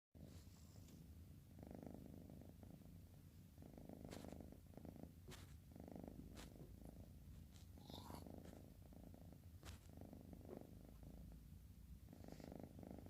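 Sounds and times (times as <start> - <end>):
cat snoring: 0.2 - 2.9, 3.6 - 11.4, 12.0 - 13.0.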